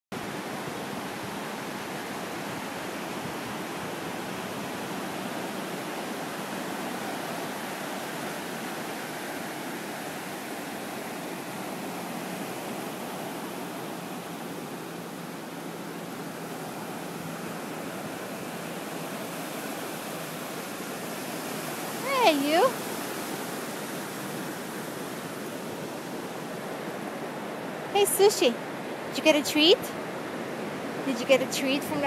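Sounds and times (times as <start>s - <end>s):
ocean waves washing up beach: 0.2s - 32.0s.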